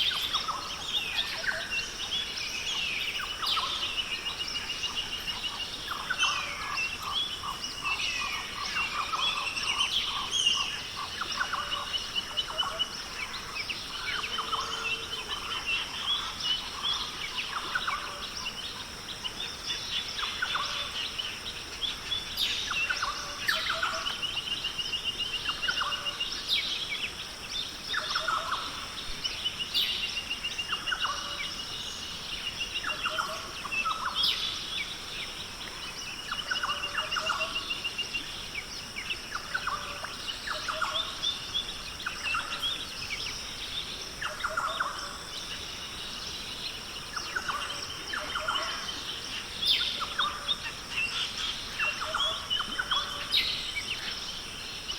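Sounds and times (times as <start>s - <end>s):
birds calling and chirping: 0.0s - 54.9s
steady high-pitched hiss: 0.0s - 54.9s.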